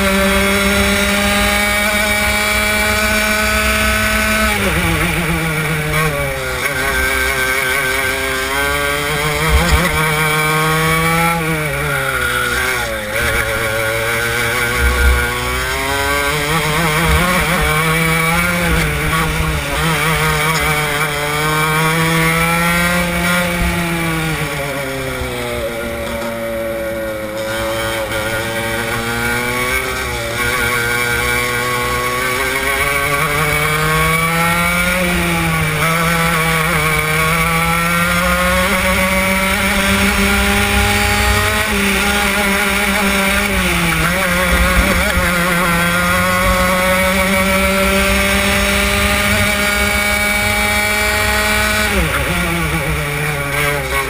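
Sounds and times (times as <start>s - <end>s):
kart engine at full throttle: 0.0s - 54.0s.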